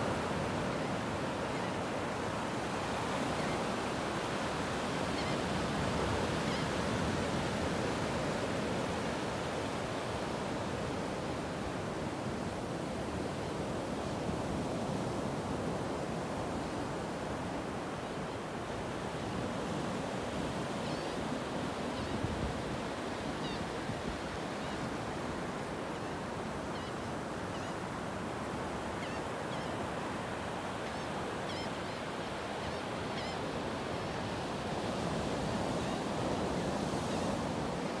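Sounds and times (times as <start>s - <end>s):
ocean surf on beach: 0.0s - 38.0s.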